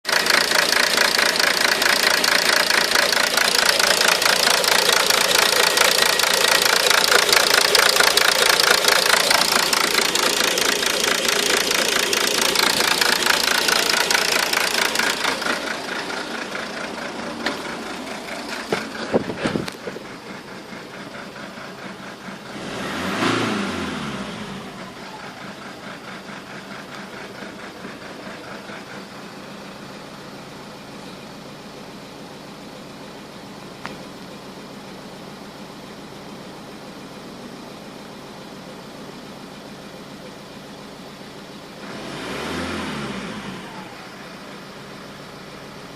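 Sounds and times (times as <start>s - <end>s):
car engine idling roughly: 0.0s - 23.1s, 24.5s - 41.8s, 43.7s - 45.9s.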